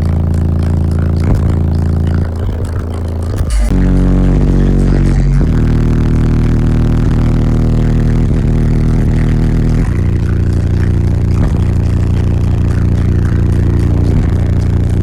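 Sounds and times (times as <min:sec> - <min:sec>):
bass-heavy music from car subwoofers: 0:00.0 - 0:15.0.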